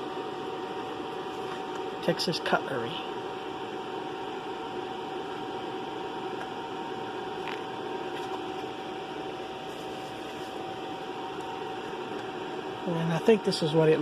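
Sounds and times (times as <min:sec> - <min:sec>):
machine running with high whine: 0:00.0 - 0:14.0.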